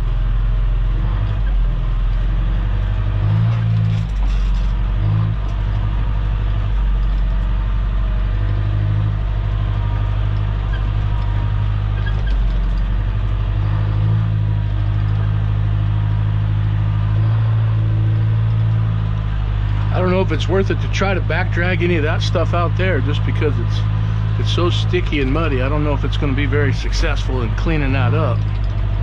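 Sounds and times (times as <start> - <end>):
machine engine droning: 0.0 - 29.0.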